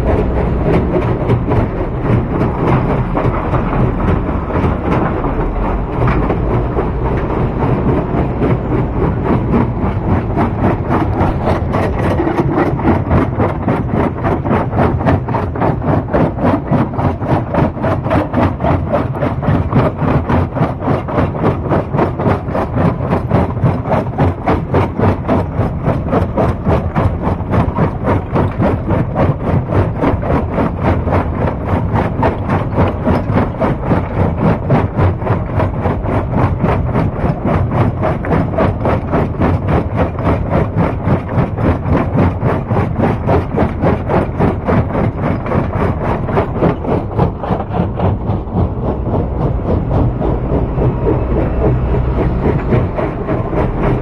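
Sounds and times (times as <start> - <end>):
stone-crushing machinery running: 0.0 - 54.0.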